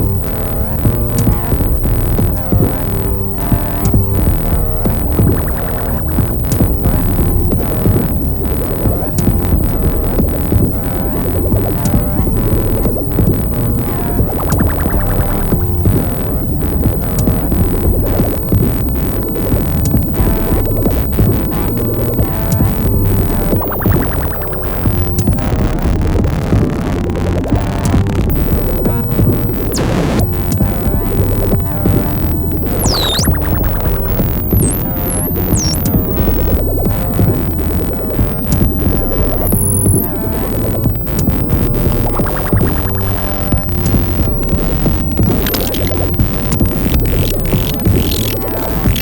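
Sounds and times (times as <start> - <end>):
electronic music groove: 0.0 - 49.0
low bass pulse: 0.0 - 49.0
percussive beat: 0.0 - 49.0
stuttering synth note roll: 0.0 - 49.0.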